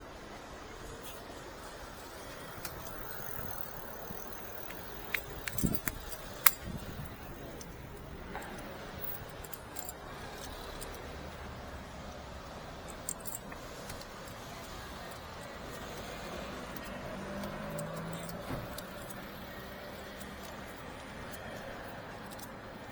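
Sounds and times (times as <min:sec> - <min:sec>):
keys jangling and clicking: 0:02.4 - 0:11.5, 0:12.5 - 0:22.9.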